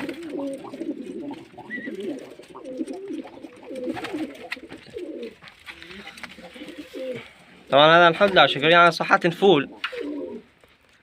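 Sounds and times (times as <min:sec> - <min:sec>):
pigeons cooing: 0:00.0 - 0:10.6.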